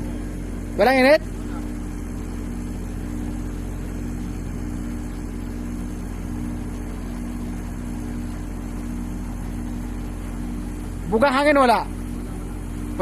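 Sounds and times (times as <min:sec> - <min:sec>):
compressor humming: 0:00.0 - 0:13.0.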